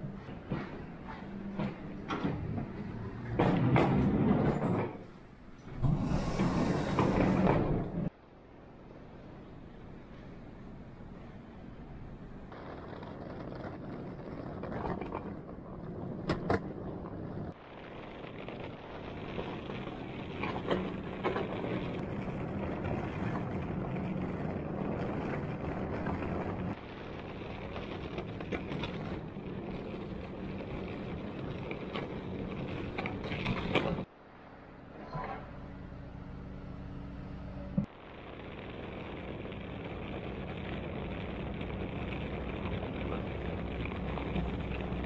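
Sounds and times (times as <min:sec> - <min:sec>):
traffic hum: 0:00.0 - 0:45.0.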